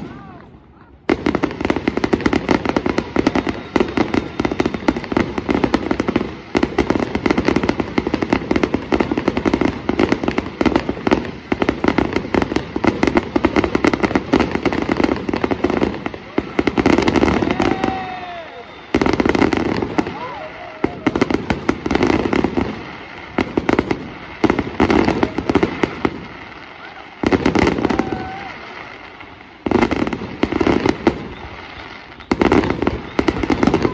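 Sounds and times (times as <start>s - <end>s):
fireworks crackling and popping: 0.0s - 33.9s.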